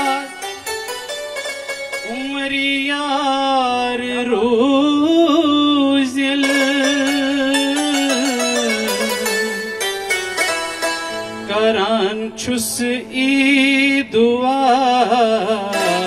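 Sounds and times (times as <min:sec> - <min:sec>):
man singing through loudspeakers: 0:00.0 - 0:00.6, 0:02.0 - 0:09.9, 0:11.4 - 0:16.0
keyboard accompaniment: 0:00.0 - 0:16.0.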